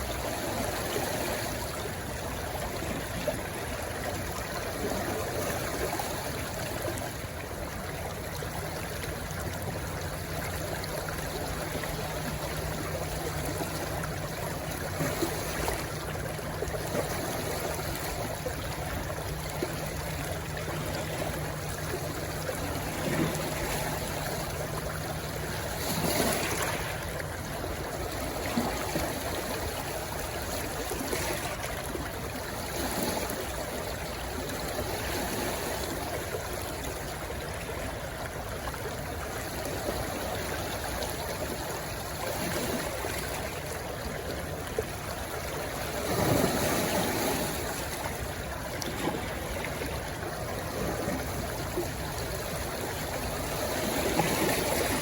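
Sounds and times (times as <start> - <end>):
rushing stream: 0.0 - 55.0.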